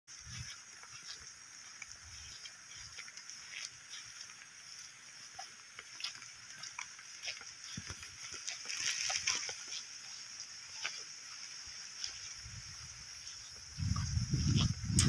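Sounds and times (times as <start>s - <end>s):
footsteps through wet grass: 0.1s - 15.0s
insects droning: 0.1s - 15.0s.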